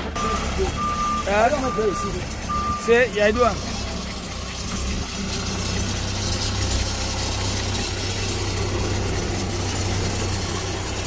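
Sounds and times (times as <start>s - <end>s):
forklift engine humming: 0.0s - 11.0s.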